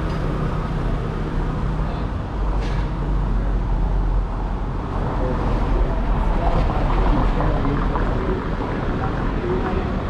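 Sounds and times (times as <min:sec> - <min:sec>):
low rumble of passing traffic: 0:00.0 - 0:10.0.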